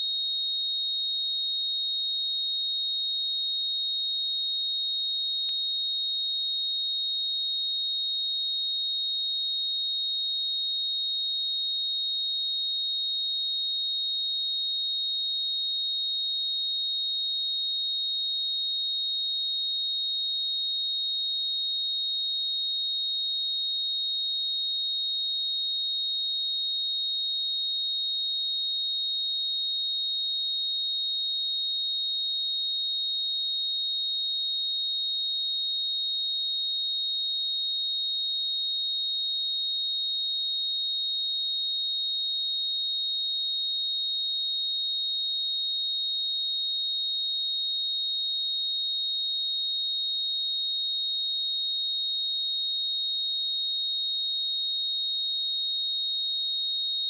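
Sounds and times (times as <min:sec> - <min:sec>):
sine wave test tone: 0:00.0 - 0:57.0.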